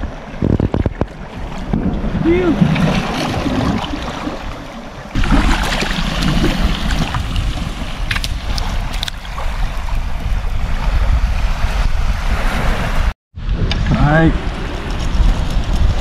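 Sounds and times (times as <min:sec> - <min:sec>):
small waves on shore: 0:00.0 - 0:13.1
wind buffeting microphone: 0:00.0 - 0:16.0.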